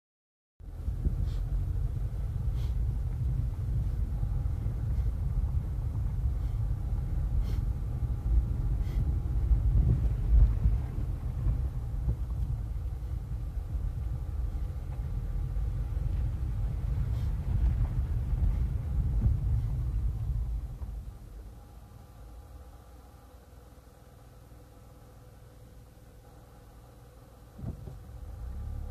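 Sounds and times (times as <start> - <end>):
tyres rumbling on dirt road: 0.6 - 24.0, 26.3 - 28.9.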